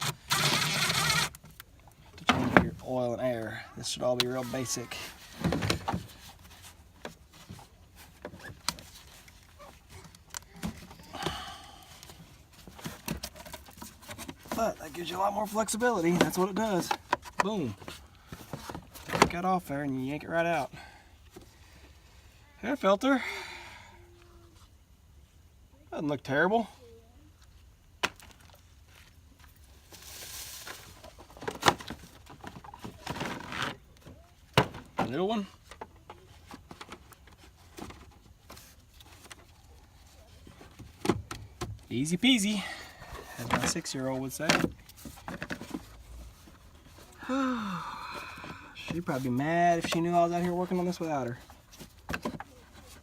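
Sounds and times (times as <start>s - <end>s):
rustle: 0.3s - 22.6s, 23.4s - 53.0s.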